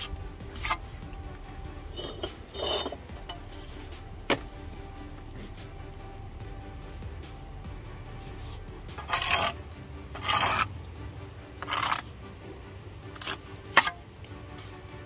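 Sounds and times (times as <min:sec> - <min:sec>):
trowel scraping mortar: 0:00.0 - 0:10.9, 0:11.6 - 0:12.1, 0:13.1 - 0:14.0
faint background music: 0:00.0 - 0:15.0.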